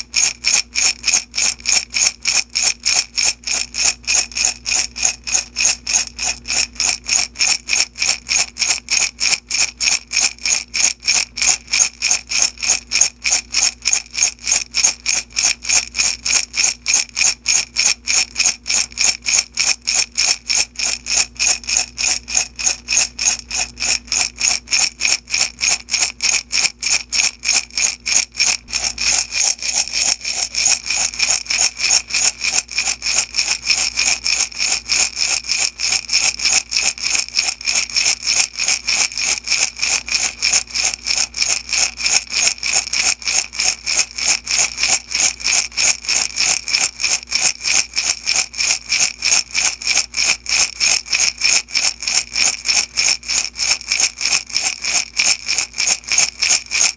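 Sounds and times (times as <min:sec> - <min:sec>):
beads rattling in glass jar: 0:00.0 - 0:56.9.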